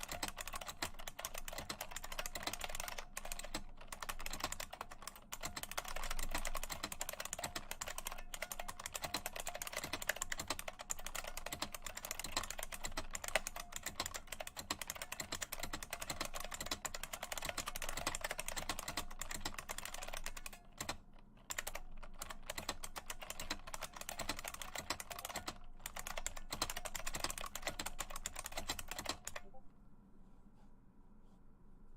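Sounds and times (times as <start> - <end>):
clicky keyboard typing: 0.0 - 29.6.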